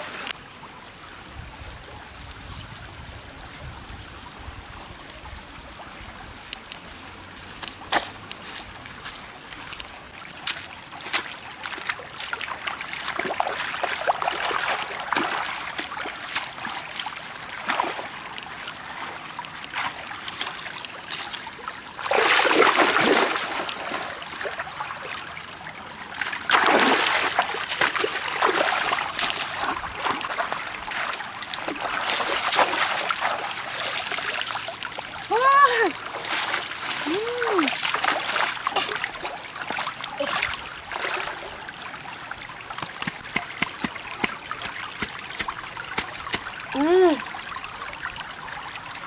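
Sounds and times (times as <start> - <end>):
water trickling and splashing: 0.0 - 49.0.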